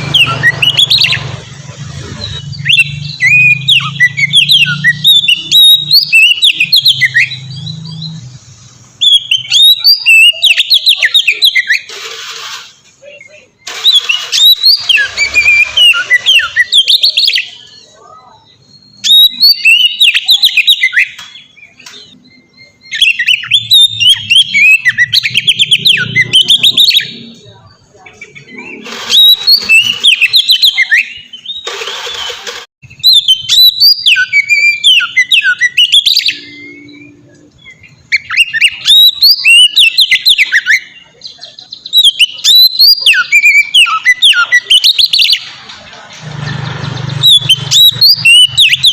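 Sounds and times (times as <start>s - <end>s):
bird singing whistled phrases: 0.0s - 1.2s, 2.2s - 8.2s, 9.0s - 11.9s, 13.0s - 27.2s, 28.5s - 32.3s, 32.9s - 45.4s, 47.1s - 48.9s.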